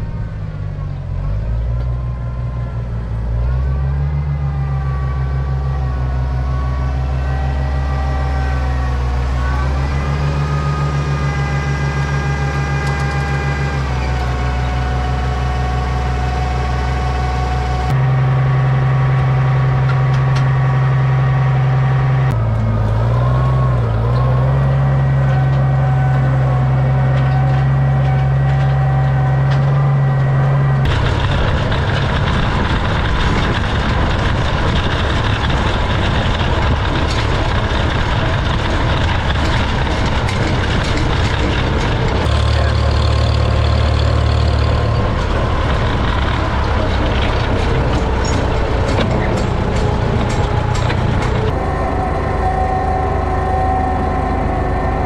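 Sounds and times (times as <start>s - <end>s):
tractor engine driving along: 0.0s - 55.0s
tractor engine idling: 0.0s - 55.0s.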